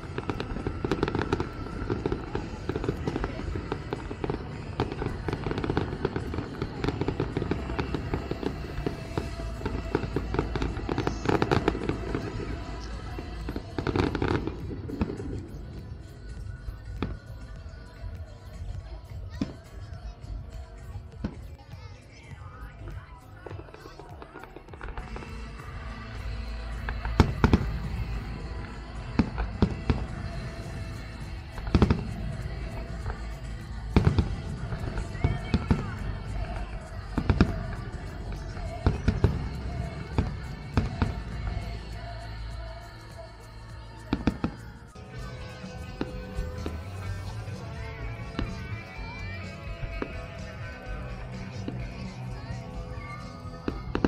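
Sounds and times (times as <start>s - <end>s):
fireworks popping and crackling: 0.0s - 54.0s.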